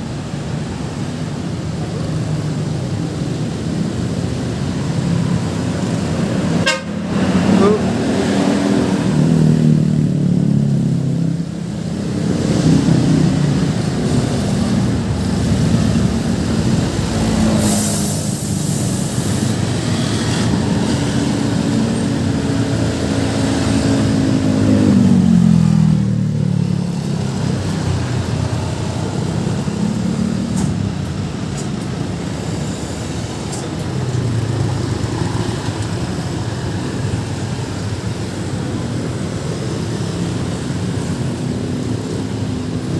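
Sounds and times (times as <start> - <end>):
heavy vehicle engines passing: 0.0 - 42.9.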